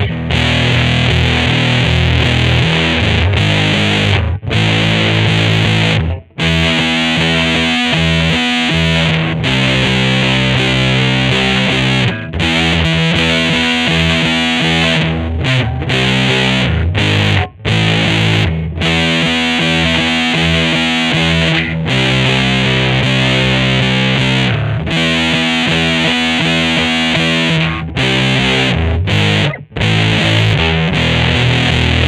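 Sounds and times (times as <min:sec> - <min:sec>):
distorted electric guitar chords: 0:00.0 - 0:32.0.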